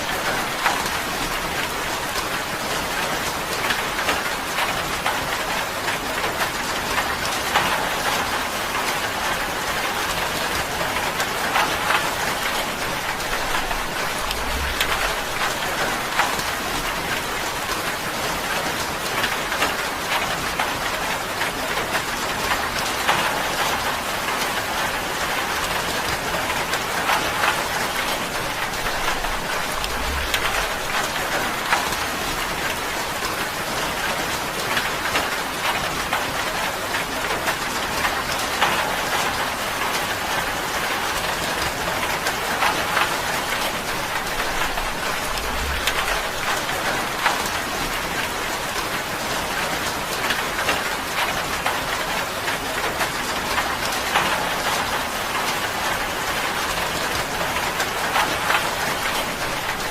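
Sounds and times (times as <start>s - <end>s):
rain drumming on a tin roof: 0.0s - 59.9s.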